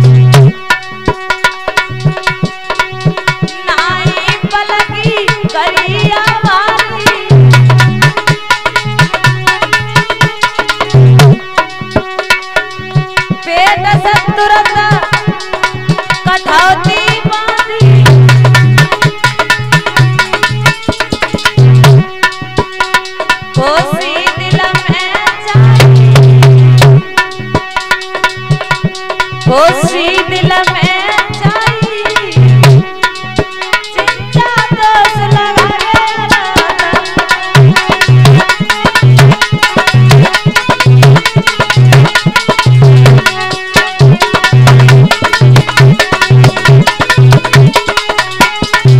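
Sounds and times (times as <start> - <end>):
fast hand-drum strokes: 0.0 - 48.9
wavering melody line: 0.0 - 48.9.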